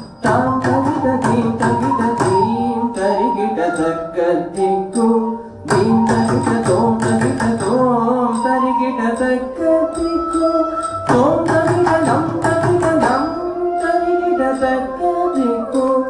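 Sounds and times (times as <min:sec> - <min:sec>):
gliding melodic line: 0:00.0 - 0:16.0
regular percussion strokes: 0:00.0 - 0:16.0.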